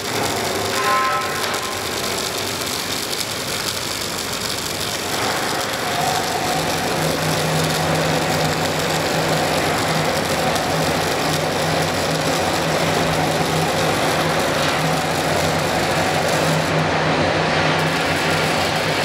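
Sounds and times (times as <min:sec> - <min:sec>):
low machine hum: 0:00.0 - 0:19.0
welding arc crackling and hissing: 0:00.0 - 0:19.0.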